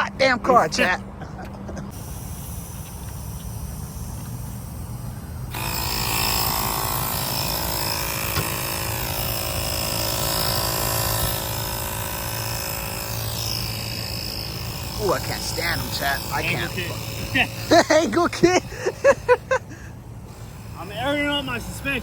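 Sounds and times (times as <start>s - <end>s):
low engine rumble: 0.0s - 22.0s
mechanical whine with hiss: 1.9s - 19.6s.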